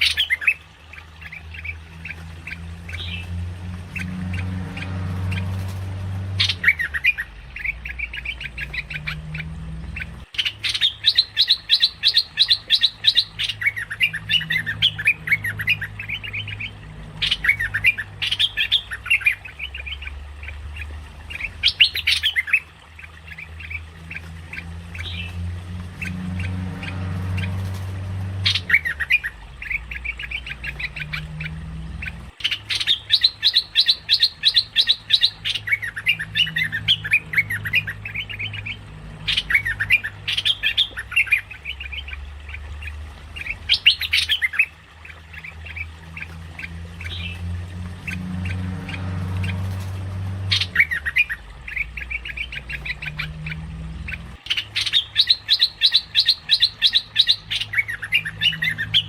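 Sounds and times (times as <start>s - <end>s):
steady low hum: 0.0s - 54.6s
bulbul chattering call: 6.4s - 25.4s, 28.4s - 59.0s.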